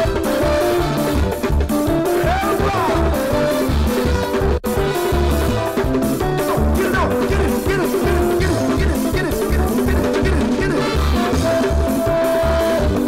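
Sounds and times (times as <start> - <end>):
live band playing highlife: 0.0 - 13.0.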